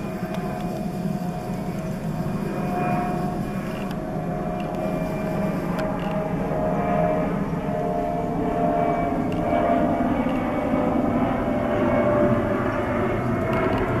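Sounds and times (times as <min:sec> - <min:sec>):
jet airliner passing overhead: 0:00.0 - 0:14.0.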